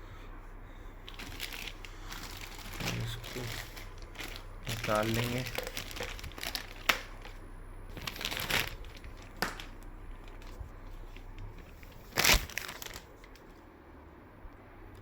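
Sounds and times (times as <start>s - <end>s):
packing wrap crinkling: 1.0s - 13.5s.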